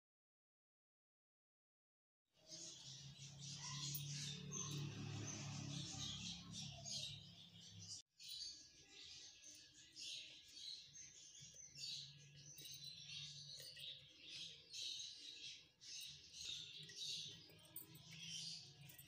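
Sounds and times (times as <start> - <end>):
small birds chirping: 2.4 - 19.0.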